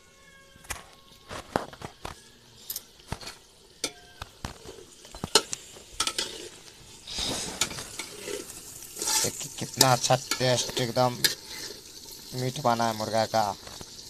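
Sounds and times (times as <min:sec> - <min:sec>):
food sizzling: 0:00.0 - 0:14.0
utensil scraping metal pot: 0:01.1 - 0:14.0.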